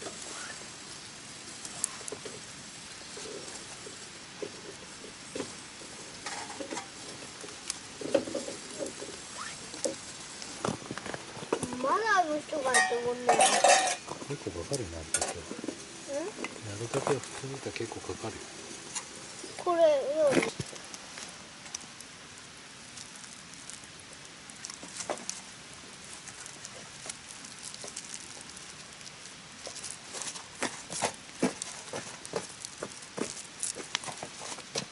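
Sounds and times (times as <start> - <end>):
fire hiss: 0.0 - 34.9
wood campfire crackling: 0.0 - 34.9.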